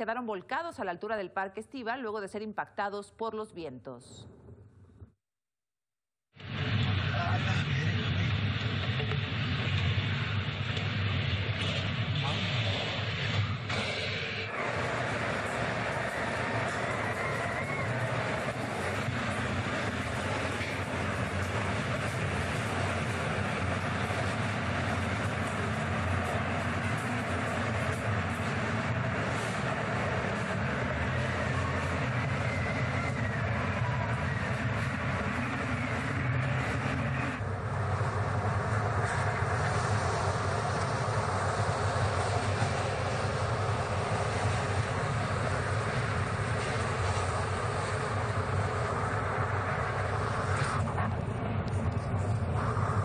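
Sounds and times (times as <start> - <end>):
tornado wind roaring: 6.4 - 53.0.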